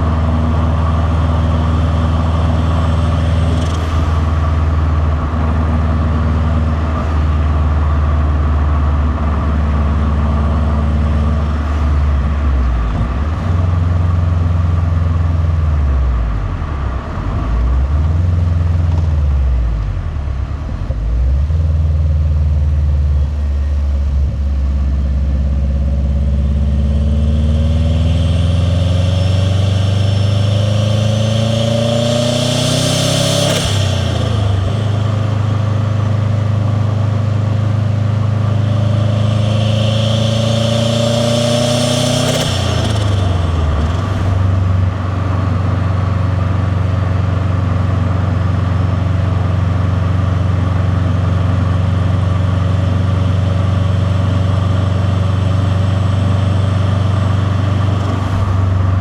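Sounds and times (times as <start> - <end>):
car engine rumbling: 0.0 - 59.0.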